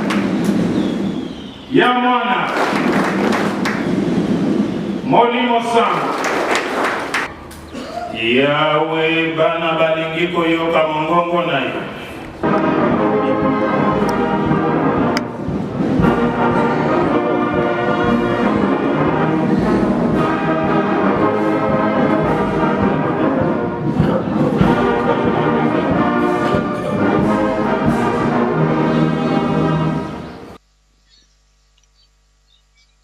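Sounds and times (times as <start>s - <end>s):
brass ensemble playing chords: 0.0s - 7.6s, 8.2s - 30.6s.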